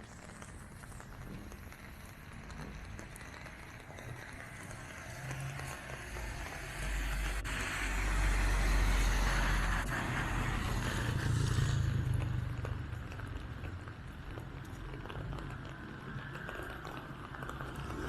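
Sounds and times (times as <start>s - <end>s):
engine rumble: 0.0s - 18.0s
tyre hiss on wet road: 0.0s - 18.0s.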